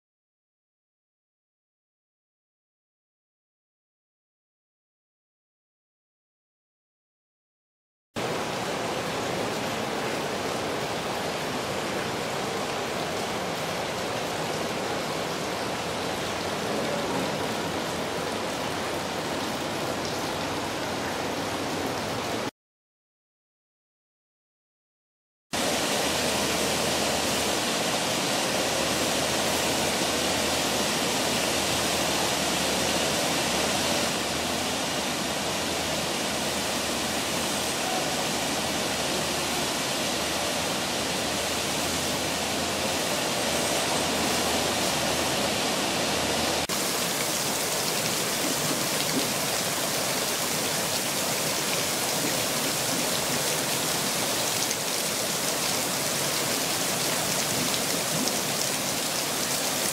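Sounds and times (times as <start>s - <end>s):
fountain jets of water: 8.2s - 22.5s, 25.6s - 59.9s.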